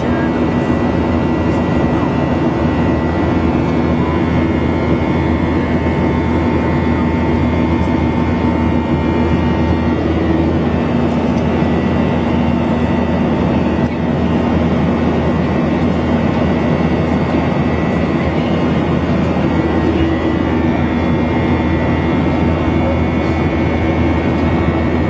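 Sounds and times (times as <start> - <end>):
airliner cabin engine roar: 0.0 - 25.0.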